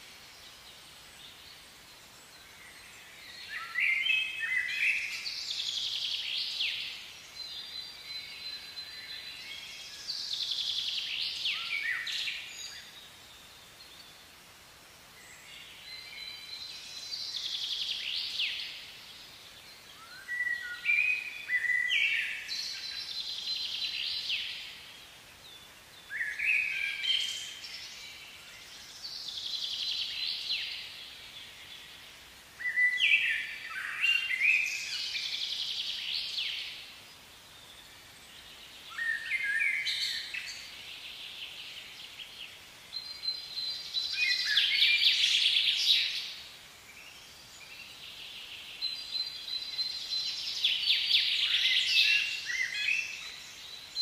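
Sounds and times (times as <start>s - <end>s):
faint steady hiss: 0.0s - 54.0s
songbird singing: 0.0s - 54.0s.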